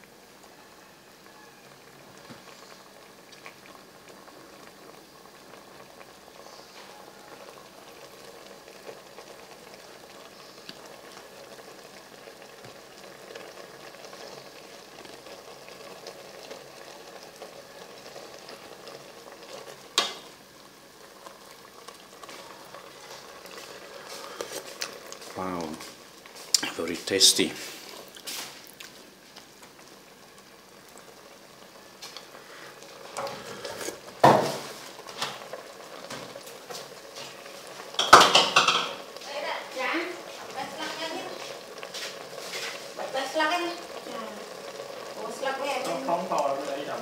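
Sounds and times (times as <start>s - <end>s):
stew bubbling in a pot: 0.0s - 47.0s.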